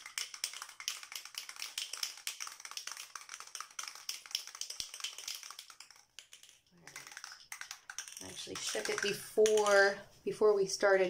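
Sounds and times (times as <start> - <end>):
aerosol can rattling when shaken: 0.0 - 9.9.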